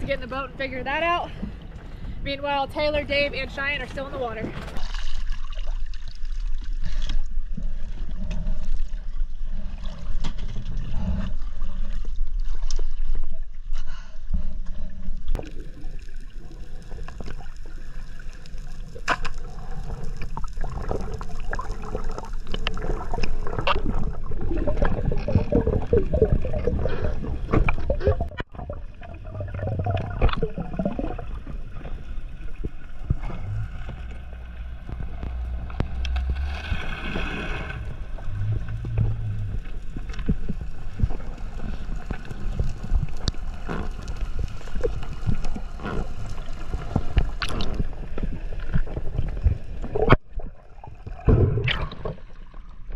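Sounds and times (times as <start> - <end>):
muffled underwater rush: 0.0 - 52.9.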